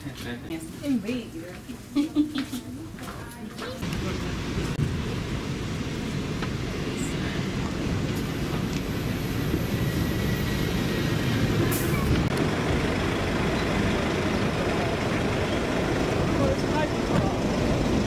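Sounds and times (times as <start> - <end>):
diesel bus engine rumbling: 2.6 - 18.0.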